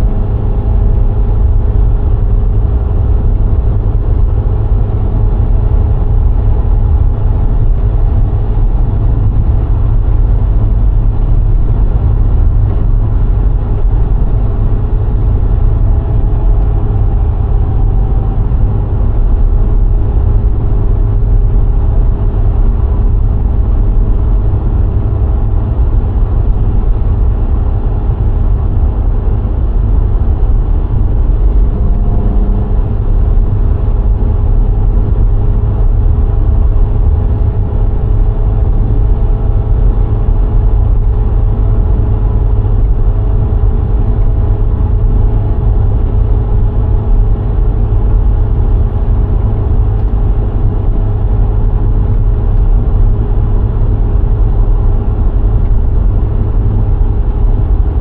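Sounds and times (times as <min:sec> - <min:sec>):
car engine hum: 0:00.0 - 0:58.0
tyres rumbling on road: 0:00.0 - 0:58.0.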